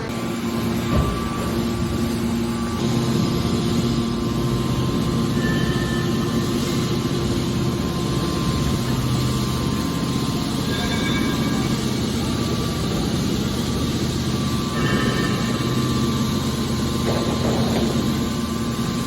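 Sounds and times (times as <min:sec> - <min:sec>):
hydraulic baler motor humming: 0:00.0 - 0:19.0.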